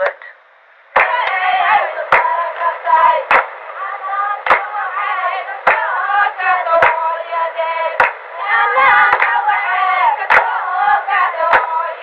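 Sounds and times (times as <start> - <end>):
women singing together: 1.0 - 12.0.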